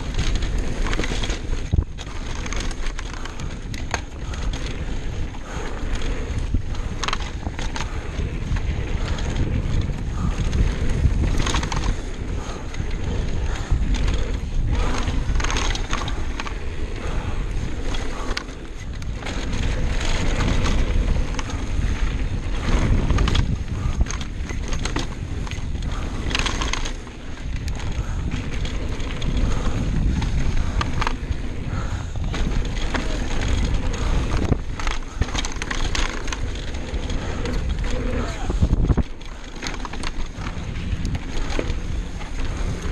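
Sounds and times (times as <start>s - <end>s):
bike rattling and knocking: 0.0s - 42.9s
tyres rumbling on dirt: 0.0s - 42.9s
wind buffeting microphone: 0.0s - 42.9s.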